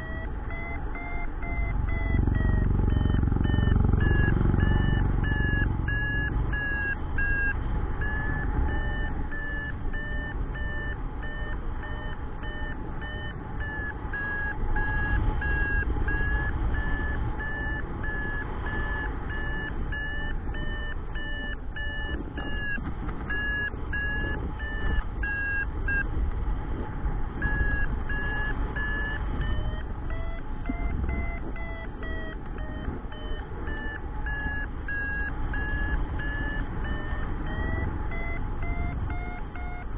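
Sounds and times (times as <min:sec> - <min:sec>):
variometer beeping: 0:00.0 - 0:39.9.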